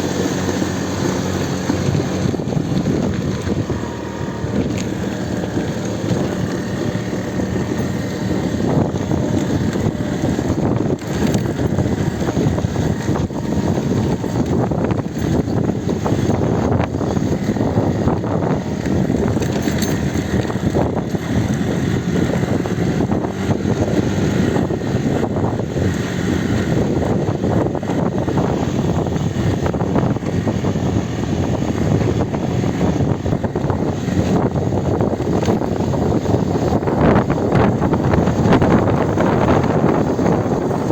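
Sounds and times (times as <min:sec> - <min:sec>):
atv engine rumbling: 0:00.0 - 0:40.9
wind buffeting microphone: 0:00.0 - 0:40.9.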